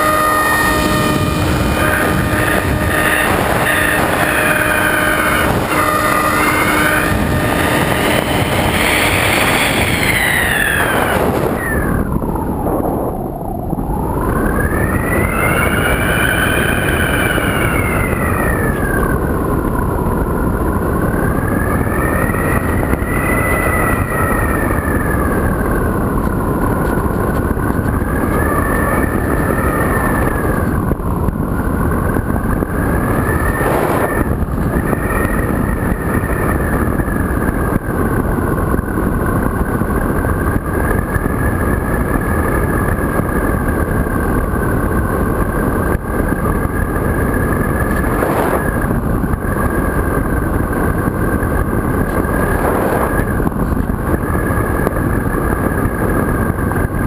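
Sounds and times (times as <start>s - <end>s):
electric motor and propeller whining: 0.0s - 57.0s
wind rush: 0.0s - 57.0s.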